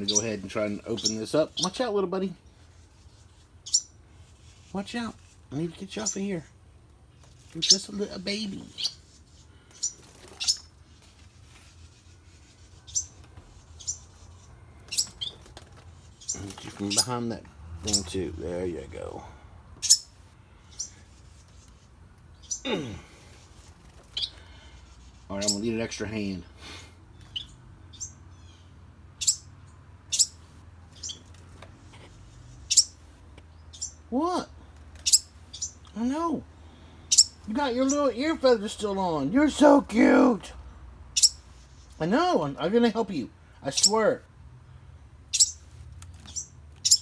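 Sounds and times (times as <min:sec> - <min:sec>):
baby songbirds chirping: 0:00.0 - 0:47.0
small birds peeping: 0:00.0 - 0:47.0.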